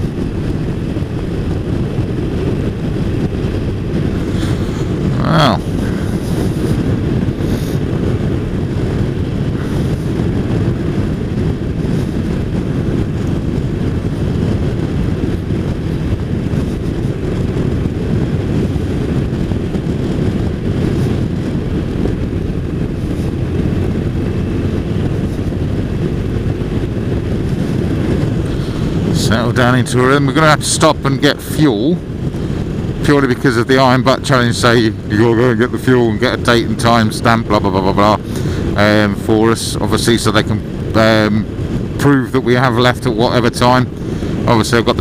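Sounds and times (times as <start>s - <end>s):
motorcycle cruising: 0.0s - 45.0s
wind buffeting microphone: 0.0s - 45.0s.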